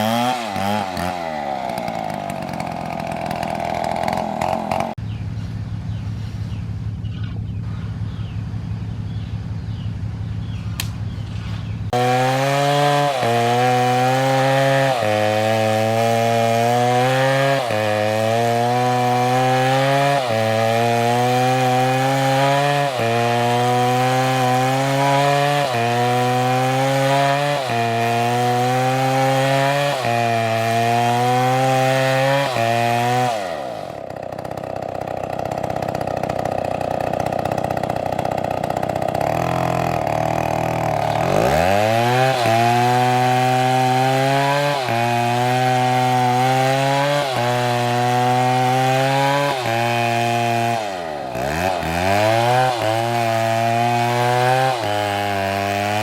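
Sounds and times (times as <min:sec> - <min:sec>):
chainsaw cutting log: 0:00.0 - 0:05.1, 0:10.4 - 0:56.0
chainsaw engine: 0:00.0 - 0:56.0.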